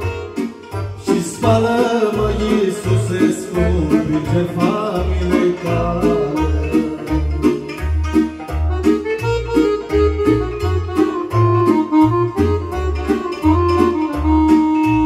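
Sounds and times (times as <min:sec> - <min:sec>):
electronic keyboard playing: 0:00.0 - 0:15.0.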